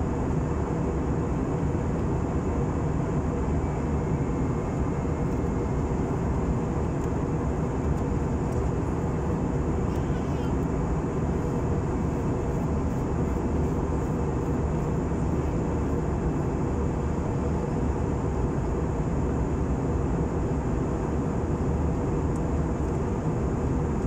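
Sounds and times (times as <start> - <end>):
aircraft engines and rushing air: 0.0 - 24.0
faint constant hum: 0.0 - 24.0.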